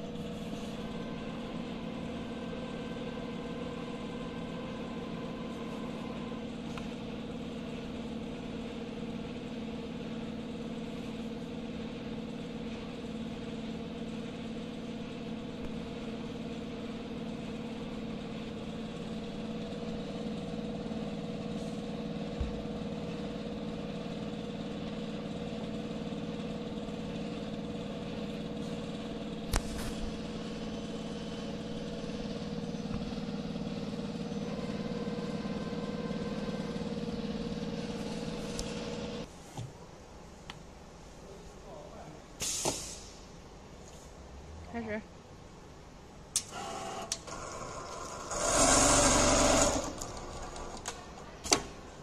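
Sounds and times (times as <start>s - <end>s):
machinery electric hum: 0.0s - 42.4s, 43.1s - 52.0s.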